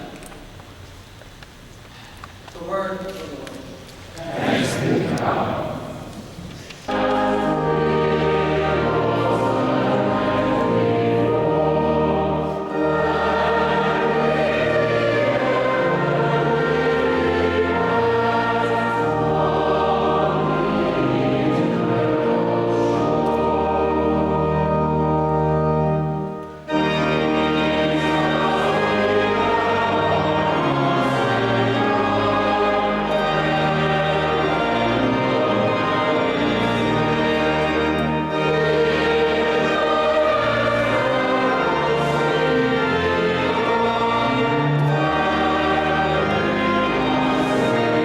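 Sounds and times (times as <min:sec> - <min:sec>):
organ chords: 0:03.4 - 0:48.0
choir singing: 0:04.2 - 0:48.0.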